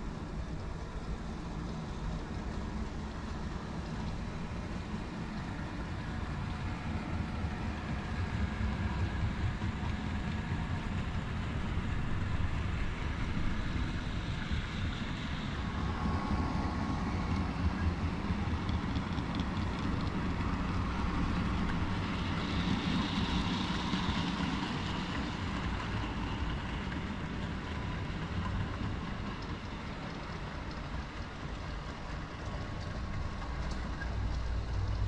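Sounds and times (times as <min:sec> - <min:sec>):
faint motor whine: 0:00.0 - 0:35.0
model train wheels rumbling: 0:00.0 - 0:35.0.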